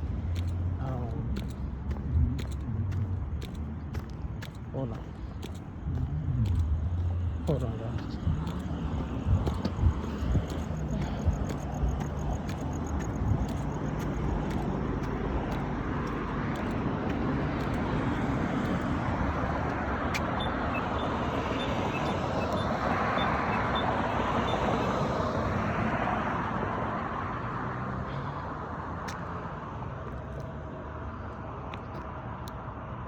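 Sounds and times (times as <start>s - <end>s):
vehicle tyre and engine noise: 0.0s - 33.0s.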